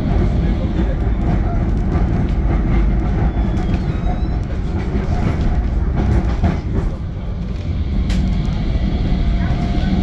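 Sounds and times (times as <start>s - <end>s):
clatter over rail joints: 0.0s - 9.9s
tram wheels rumbling on rail: 0.0s - 10.0s.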